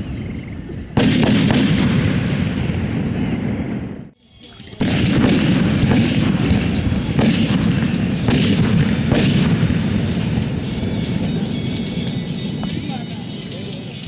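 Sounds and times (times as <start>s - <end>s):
fireworks booming and cracking: 0.9s - 4.2s, 4.8s - 13.6s.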